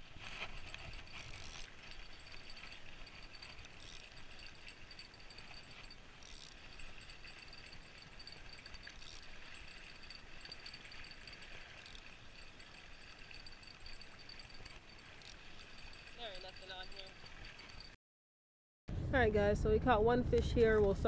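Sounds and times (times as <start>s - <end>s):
fishing reel whirring rattle: 0.1s - 18.0s
reel clicks: 0.2s - 18.0s.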